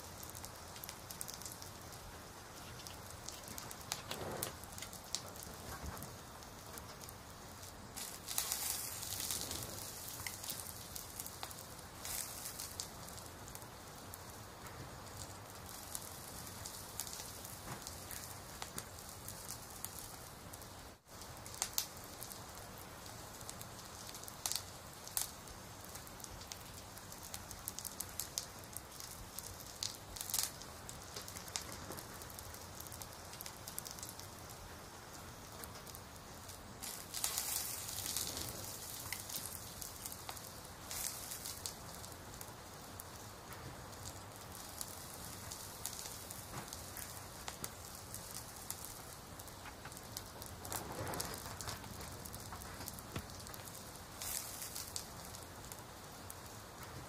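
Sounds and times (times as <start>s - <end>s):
fire crackling and popping: 0.0s - 57.0s
soft hiss: 0.0s - 57.0s.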